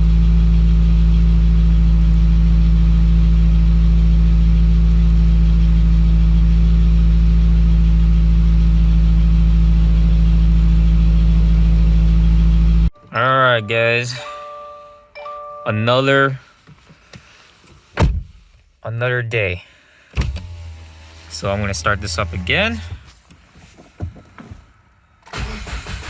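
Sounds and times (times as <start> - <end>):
car engine idling: 0.0 - 14.9, 19.4 - 26.0.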